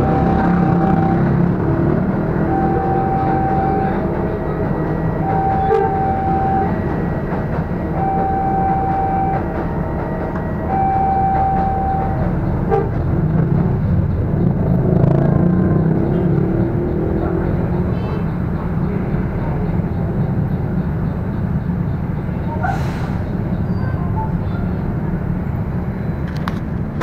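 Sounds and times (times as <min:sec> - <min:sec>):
crossing warning tone: 0:00.0 - 0:26.4
trains rumbling on rails: 0:00.0 - 0:27.0.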